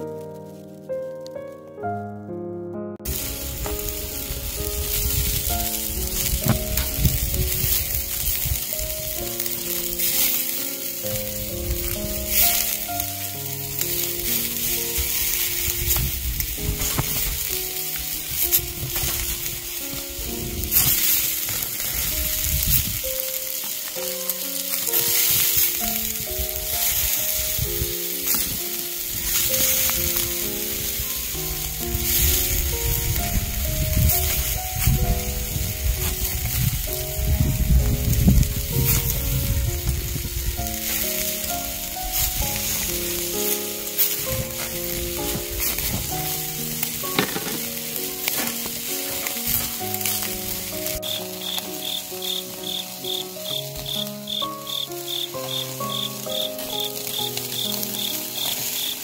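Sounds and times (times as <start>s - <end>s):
pork sizzling on a grill: 0.0s - 1.6s, 3.0s - 59.0s
gentle melodic background music: 0.0s - 59.0s.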